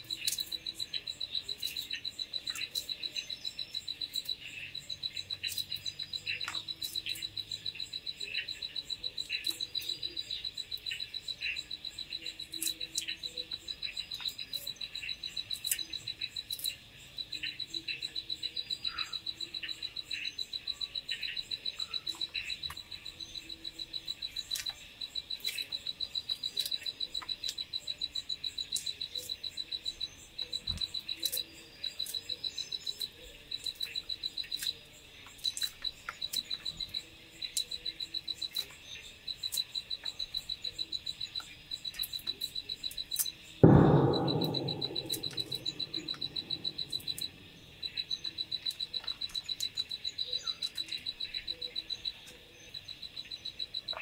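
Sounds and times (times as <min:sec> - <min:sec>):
night insects trilling: 0:00.0 - 0:54.0.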